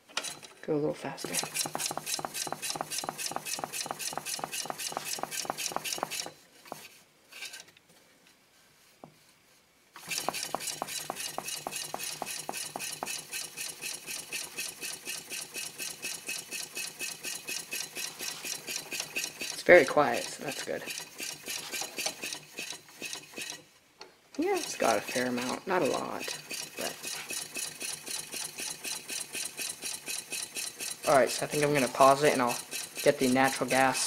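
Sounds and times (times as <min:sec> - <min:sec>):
small engine ticking: 0:01.3 - 0:06.3, 0:10.0 - 0:23.6, 0:24.6 - 0:34.0.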